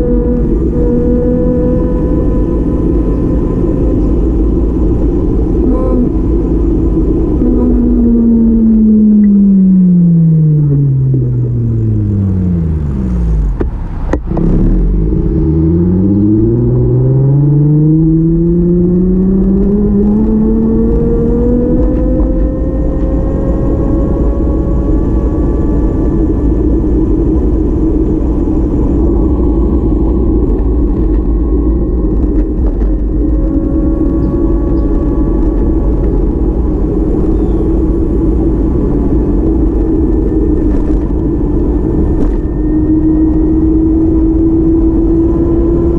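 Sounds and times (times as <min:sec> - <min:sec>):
car engine accelerating: 0:00.0 - 0:45.9
road rumble: 0:00.0 - 0:45.9.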